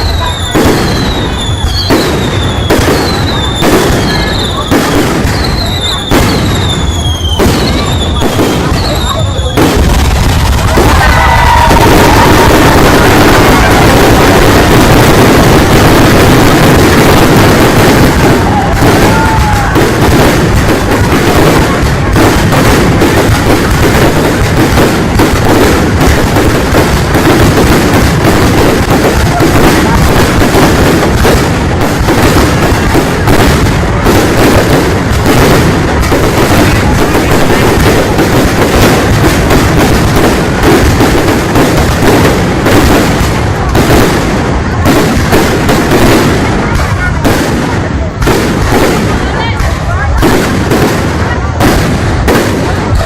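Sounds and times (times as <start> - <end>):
continuous loud rumble: 0.0 - 53.0
fireworks bangs and crackles: 0.0 - 53.0.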